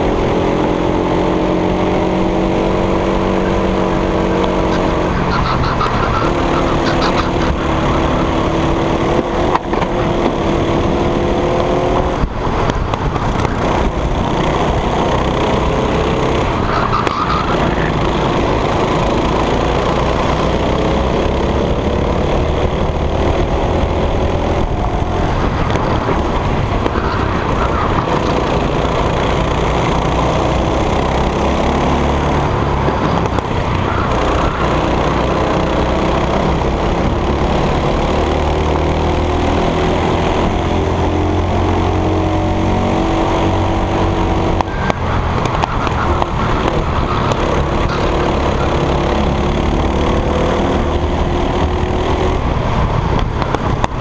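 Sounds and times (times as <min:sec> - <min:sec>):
go-kart engine revving: 0:00.0 - 0:54.0
steady rushing noise: 0:01.5 - 0:54.0.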